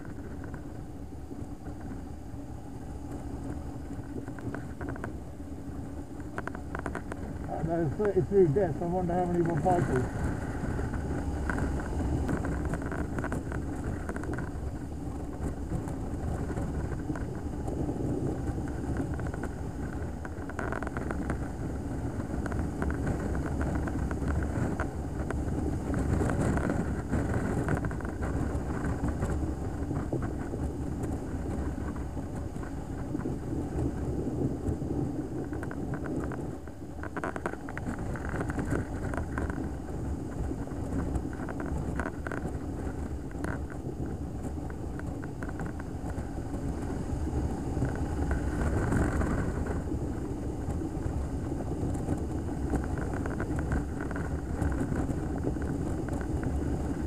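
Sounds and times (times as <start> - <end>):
motorcycle engine rumble: 0.0 - 57.0
wind rush on microphone: 0.0 - 57.0.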